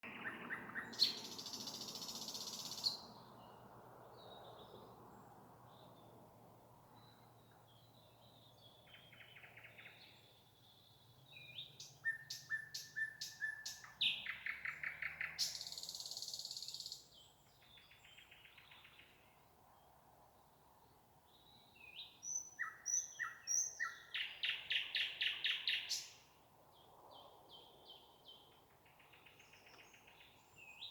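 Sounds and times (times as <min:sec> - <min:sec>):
nightingale song: 0:00.0 - 0:03.5, 0:06.9 - 0:19.5, 0:21.3 - 0:30.9.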